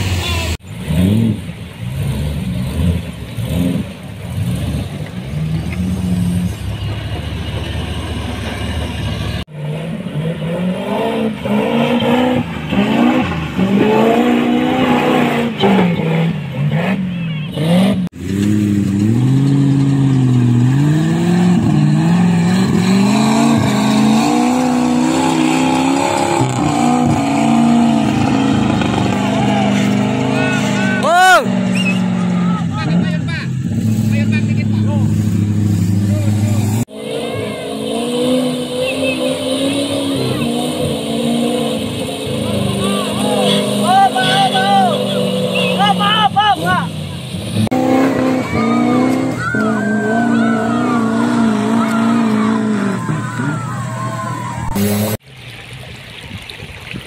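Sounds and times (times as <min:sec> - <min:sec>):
car engine revving: 0:00.0 - 0:55.2.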